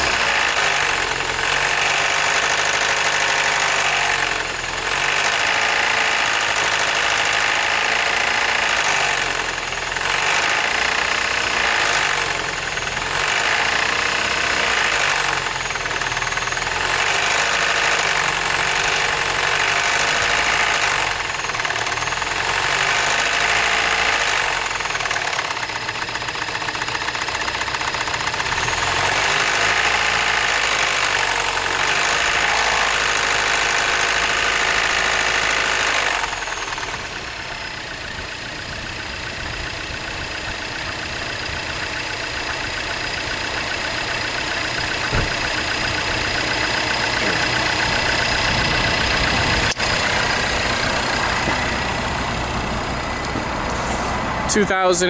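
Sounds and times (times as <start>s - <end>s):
car engine knocking and revving: 0.0s - 55.0s.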